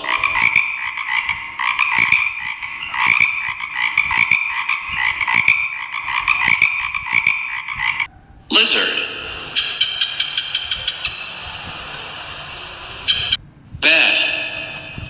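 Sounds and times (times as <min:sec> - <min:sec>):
chorus of frogs croaking: 0:00.0 - 0:13.4.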